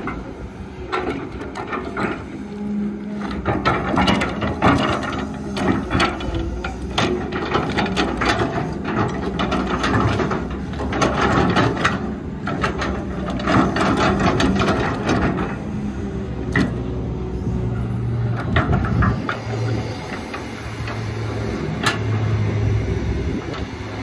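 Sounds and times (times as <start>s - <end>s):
excavator diesel engine: 0.0s - 24.0s.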